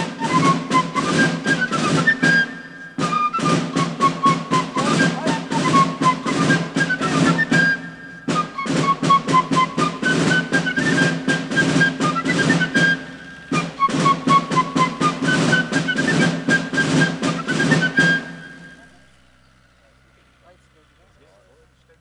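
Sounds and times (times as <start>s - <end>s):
rapid drum strokes: 0.0s - 20.5s
shrill fife melody: 0.0s - 22.0s.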